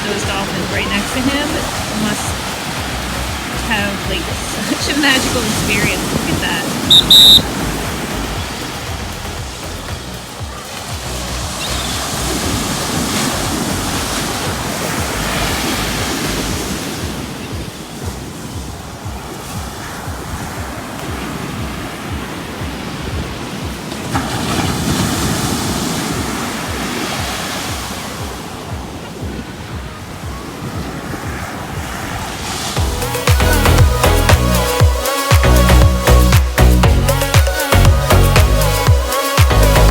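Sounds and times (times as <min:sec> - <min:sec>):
wind buffeting microphone: 0:00.0 - 0:34.8
waves breaking on beach: 0:00.0 - 0:39.9.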